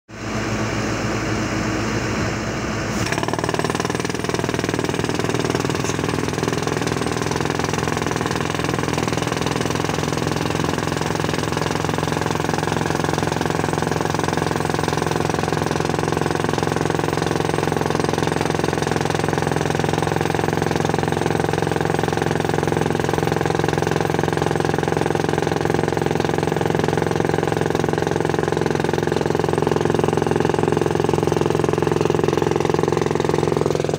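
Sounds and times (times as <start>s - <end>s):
pneumatic rock drill hammering: 2.9s - 33.9s.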